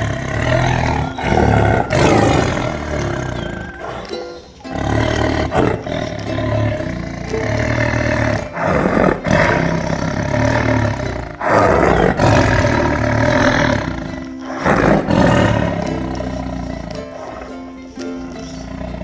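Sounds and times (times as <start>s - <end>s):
large animal roaring: 0.0s - 19.0s.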